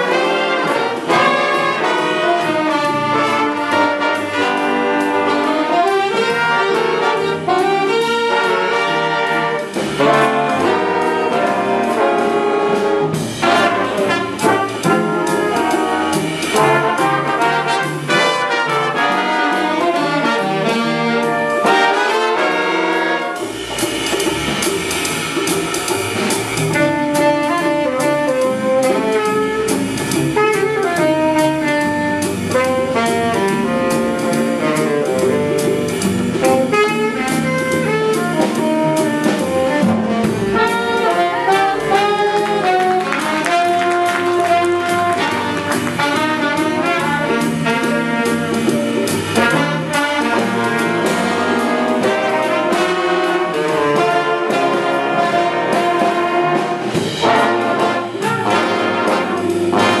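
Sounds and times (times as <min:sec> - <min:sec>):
saxophone section: 0:00.0 - 0:23.6, 0:26.8 - 1:00.0
double bass: 0:00.0 - 1:00.0
jazz big band playing: 0:00.0 - 1:00.0.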